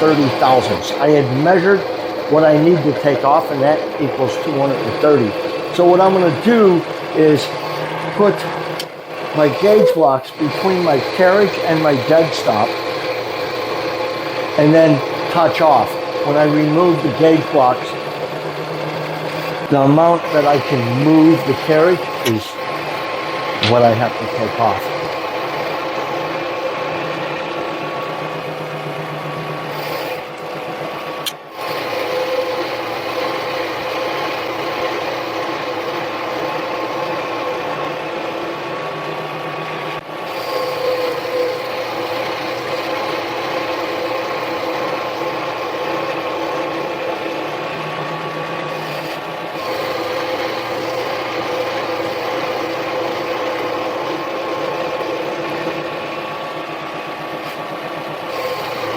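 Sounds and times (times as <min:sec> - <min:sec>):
lathe mechanical whine: 0:00.0 - 0:58.9.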